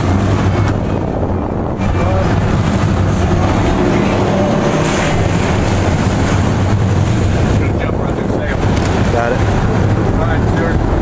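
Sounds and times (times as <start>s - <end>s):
boat engines droning: 0.0s - 11.0s
wind buffeting microphone: 0.0s - 11.0s.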